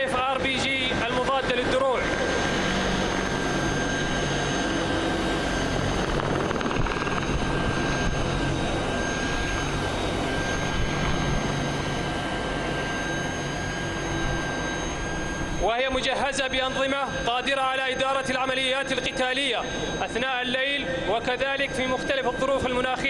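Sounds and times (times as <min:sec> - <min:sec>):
helicopter flying past: 0:00.0 - 0:23.0
high engine whine: 0:00.0 - 0:23.0.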